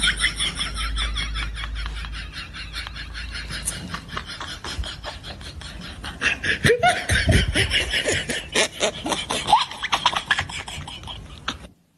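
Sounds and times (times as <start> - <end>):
laughter in broken bursts: 0.0 - 11.8.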